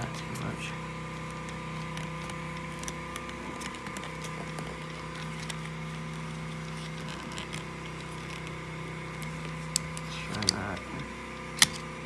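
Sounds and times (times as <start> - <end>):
steady electrical hum: 0.0 - 12.0
faint plastic clicks and handling: 1.2 - 11.9.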